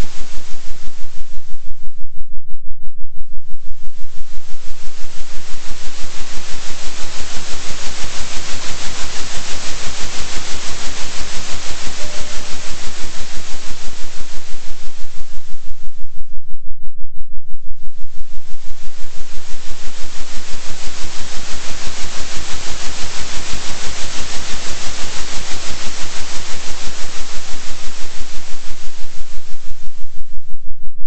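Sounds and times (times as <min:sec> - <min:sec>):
pulsing synthetic hiss: 0:00.0 - 0:01.6, 0:03.8 - 0:16.0, 0:18.0 - 0:30.3
steady low hum: 0:00.0 - 0:31.0.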